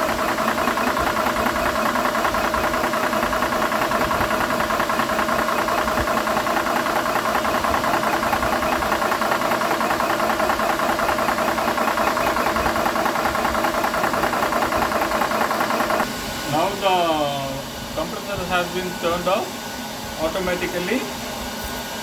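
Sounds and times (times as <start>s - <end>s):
air compressor running: 0.0s - 22.0s
cooling fan: 0.0s - 22.0s.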